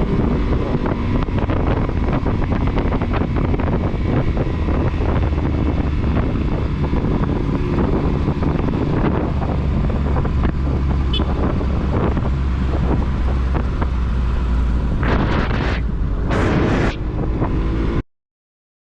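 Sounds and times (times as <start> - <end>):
motorcycle engine running: 0.0 - 15.6
rushes of noise: 0.0 - 18.0
wind buffeting microphone: 0.0 - 18.0.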